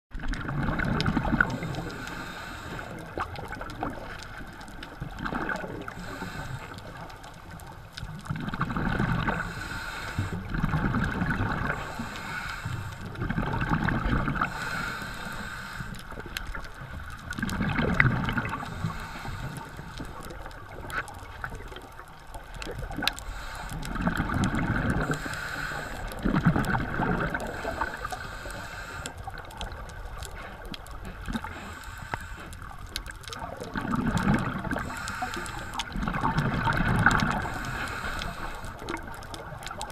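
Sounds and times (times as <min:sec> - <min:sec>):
exhale bubbling underwater: 0:00.1 - 0:39.9.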